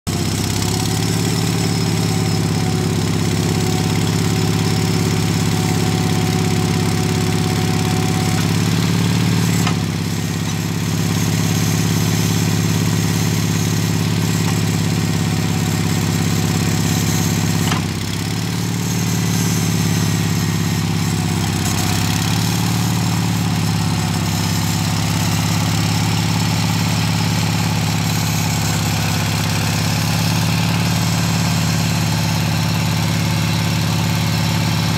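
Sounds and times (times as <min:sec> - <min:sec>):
forklift engine running: 0:00.1 - 0:34.9.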